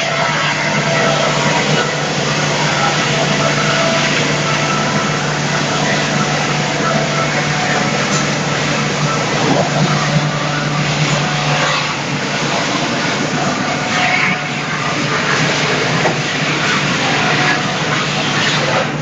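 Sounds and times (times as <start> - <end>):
circular saw mill running: 0.0 - 19.0
constant motor hum: 0.0 - 19.0.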